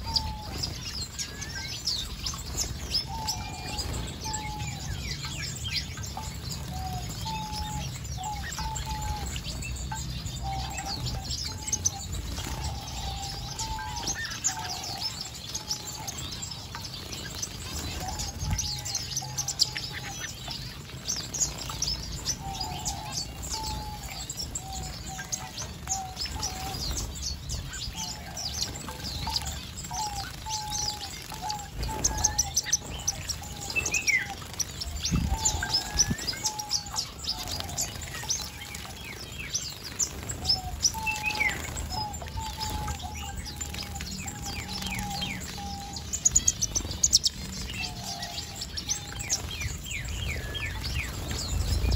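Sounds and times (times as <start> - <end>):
finches chirping: 0.0 - 51.9.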